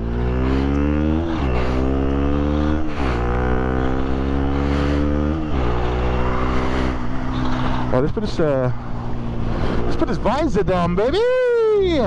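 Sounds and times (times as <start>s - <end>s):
motorcycle engine accelerating: 0.0s - 10.2s.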